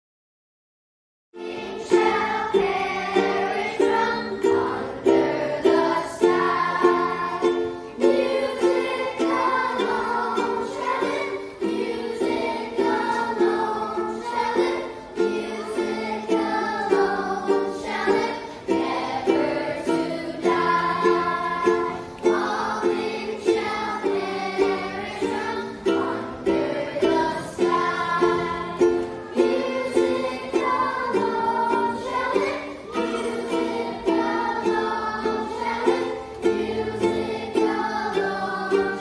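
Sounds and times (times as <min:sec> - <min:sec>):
children singing: 0:01.4 - 0:39.0
strummed string instrument: 0:01.4 - 0:39.0.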